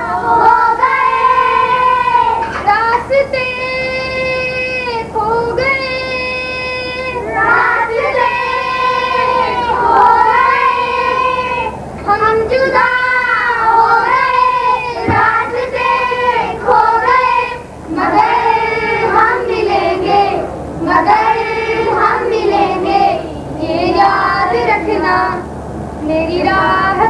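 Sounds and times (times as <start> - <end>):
children singing: 0.0 - 25.5.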